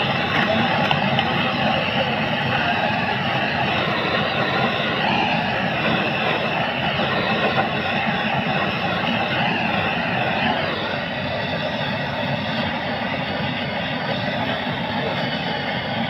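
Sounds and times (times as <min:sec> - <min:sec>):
heavy machinery droning: 0:00.0 - 0:16.0.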